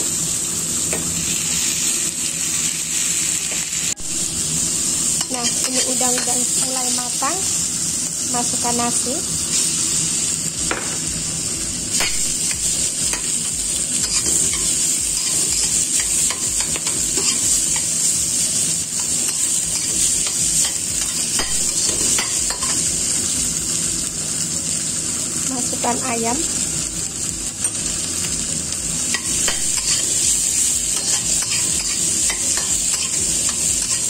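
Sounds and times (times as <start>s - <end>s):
food sizzling in wok: 0.0s - 34.0s.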